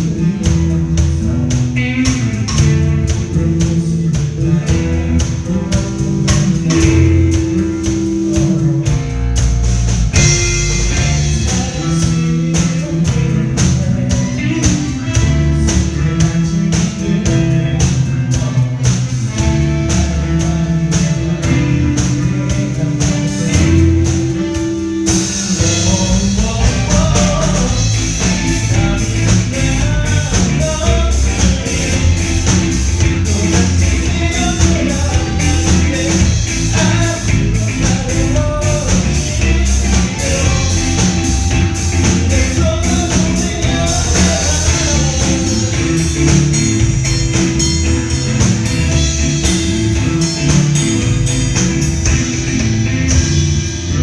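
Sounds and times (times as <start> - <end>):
drum kit with cymbals: 0.0 - 54.0
lead vocal singing: 0.0 - 54.0
pop-rock band playing: 0.0 - 54.0.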